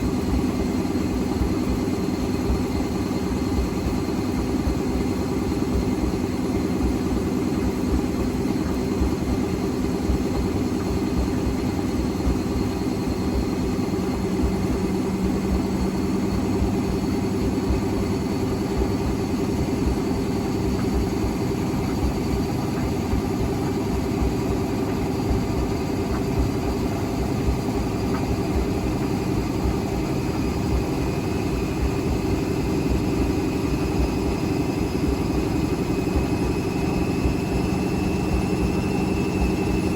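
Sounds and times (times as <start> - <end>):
faint motor whine: 0.0 - 39.9.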